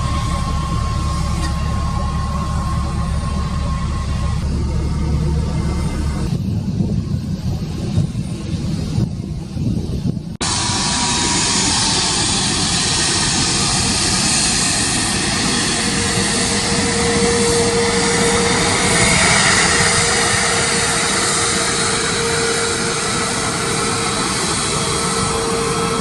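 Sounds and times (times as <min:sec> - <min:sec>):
jet engine whine: 0:00.0 - 0:26.0
jet engines running: 0:00.0 - 0:26.0.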